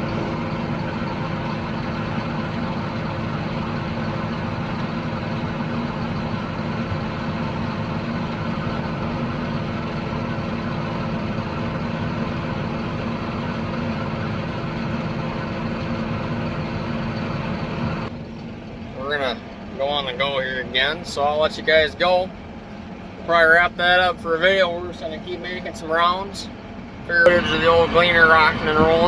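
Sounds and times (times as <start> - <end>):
heavy diesel engine droning: 0.0 - 29.0.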